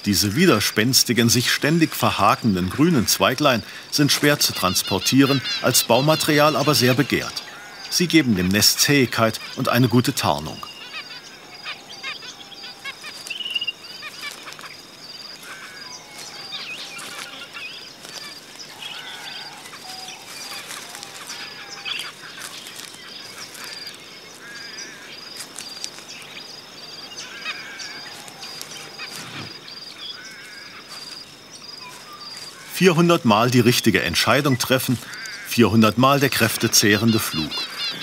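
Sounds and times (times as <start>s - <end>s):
finches chirping and honking: 0.0s - 38.0s.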